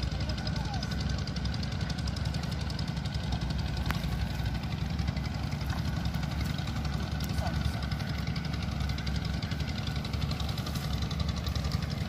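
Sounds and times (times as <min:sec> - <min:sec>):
engine running with fast pulsing: 0:00.0 - 0:12.0.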